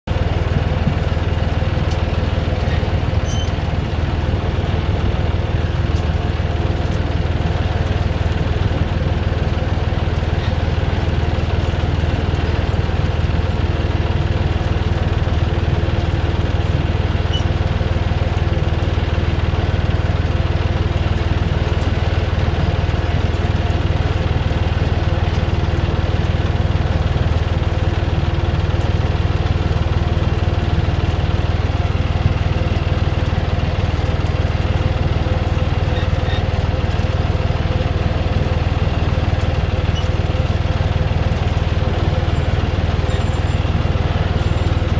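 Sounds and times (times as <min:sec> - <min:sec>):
tractor engine droning: 0:00.1 - 0:44.9.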